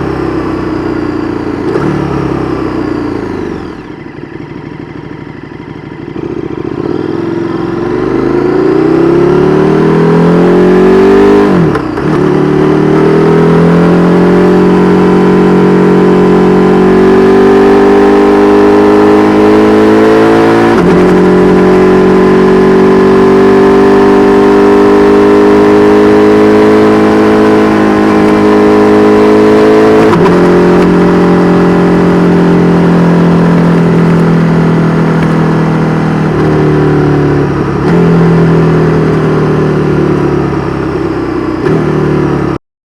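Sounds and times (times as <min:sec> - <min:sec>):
motorcycle engine accelerating and upshifting: 0:00.0 - 0:42.6.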